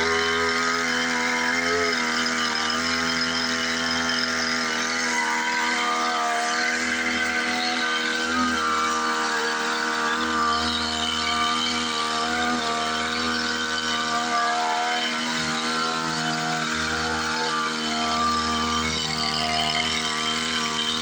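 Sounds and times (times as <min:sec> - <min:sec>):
small sprayer engine running: 0:00.0 - 0:21.0.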